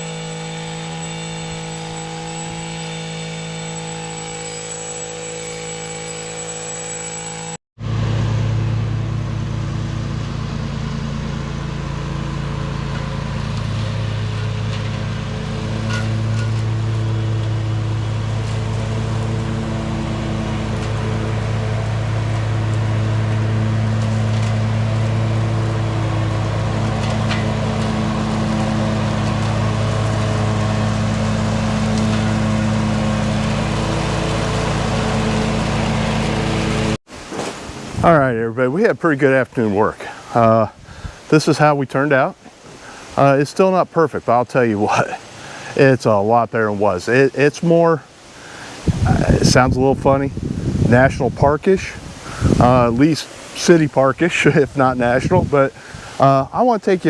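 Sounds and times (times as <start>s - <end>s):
lower-pitched engine running: 0.0s - 37.0s, 48.1s - 57.0s
yard machinery engine running: 0.0s - 37.0s, 46.8s - 57.0s.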